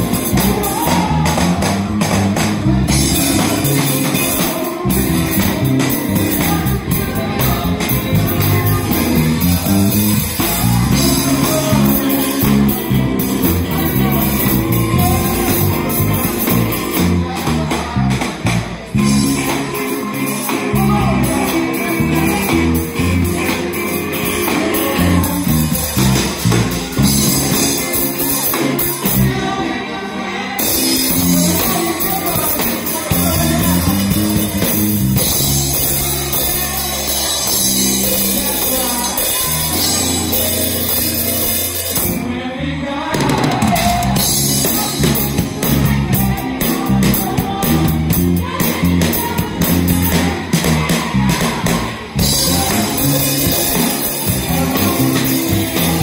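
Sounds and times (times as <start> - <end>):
live band playing r and b: 0.0 - 56.0
person singing into microphone: 0.0 - 56.0.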